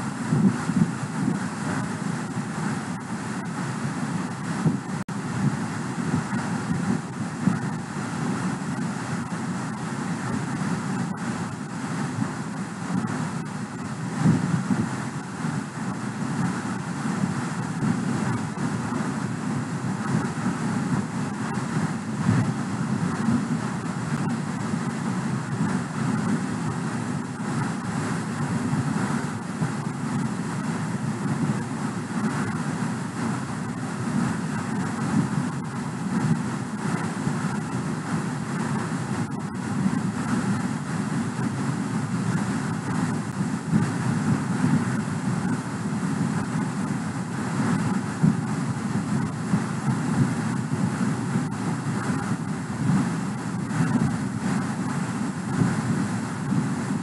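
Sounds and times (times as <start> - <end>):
steady low background noise: 0.0 - 57.0.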